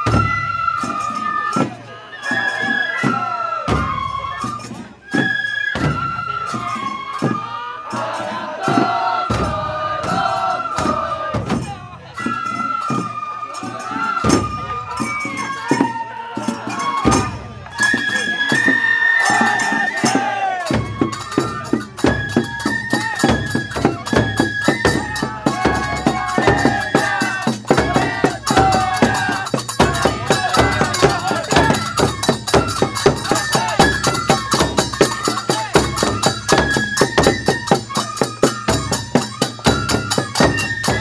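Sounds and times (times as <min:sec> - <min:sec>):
flute melody: 0:00.0 - 0:41.0
taiko drums beating: 0:00.0 - 0:41.0.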